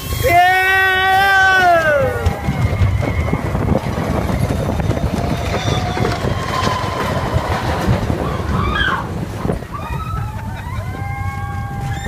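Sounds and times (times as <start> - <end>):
roller coaster rumbling on track: 0.0 - 12.0
wheels clattering: 0.0 - 12.0.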